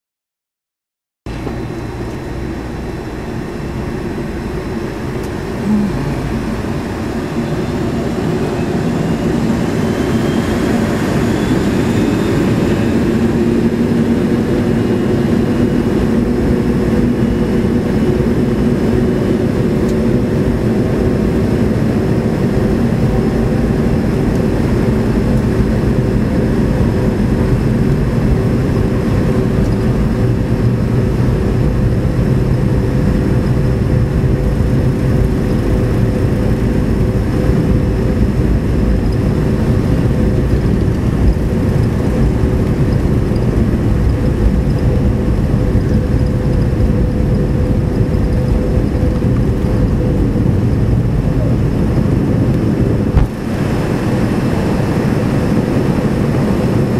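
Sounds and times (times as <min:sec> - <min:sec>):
deep runway rumble: 0:01.3 - 0:56.9
jet engines droning: 0:01.3 - 0:56.9.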